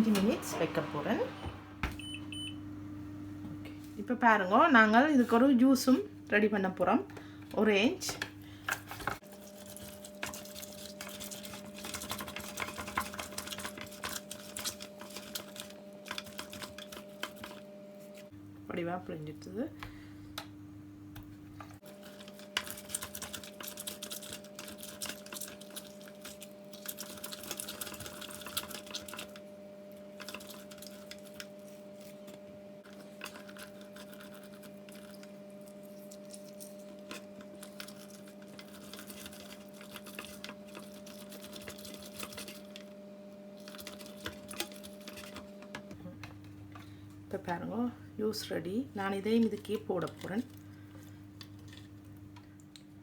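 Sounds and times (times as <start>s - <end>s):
citrus juicer motor humming: 0.0s - 53.0s.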